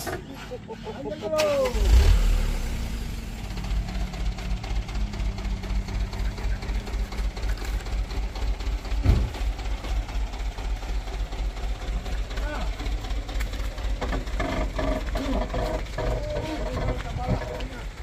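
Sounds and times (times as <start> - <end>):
diesel truck engine throbbing: 0.0 - 18.0.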